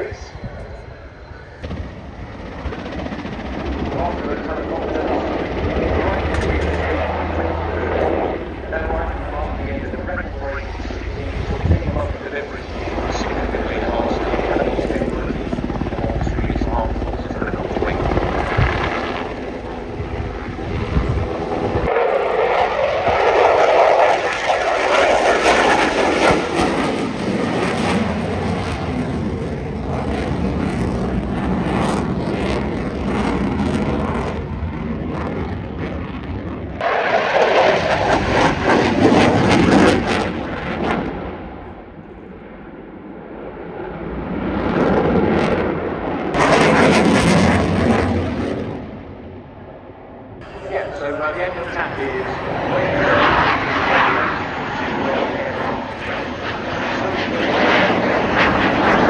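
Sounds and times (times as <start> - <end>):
aircraft engines flying past: 0.0 - 59.0.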